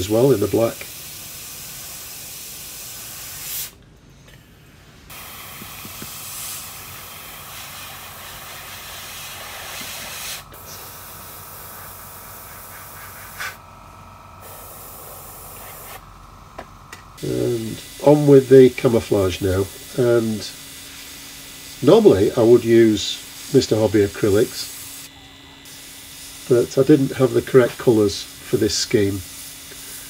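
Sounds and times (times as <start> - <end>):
airbrush hissing: 0.0 - 3.8, 4.4 - 30.0.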